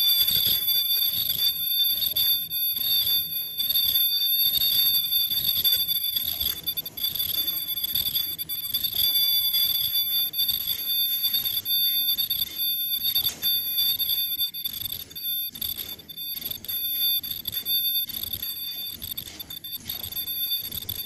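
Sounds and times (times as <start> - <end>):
high-pitched ultrasonic cutter whine: 0.0 - 21.0
machine running noise: 0.0 - 21.0.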